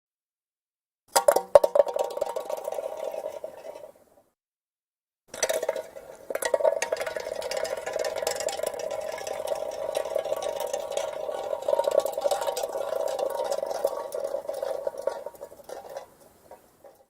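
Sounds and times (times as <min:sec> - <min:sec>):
tin can rolling on asphalt: 0:01.1 - 0:04.3, 0:05.3 - 0:17.0.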